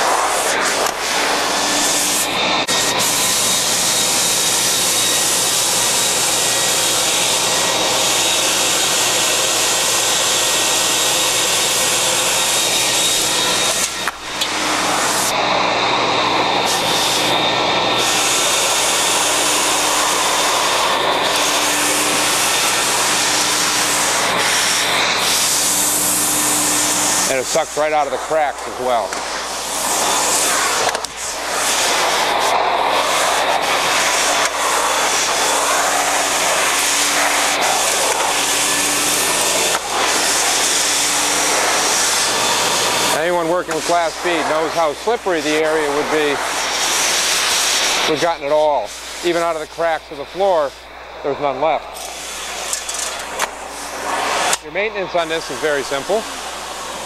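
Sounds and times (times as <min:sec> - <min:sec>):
industrial vacuum running: 0:00.0 - 0:57.0.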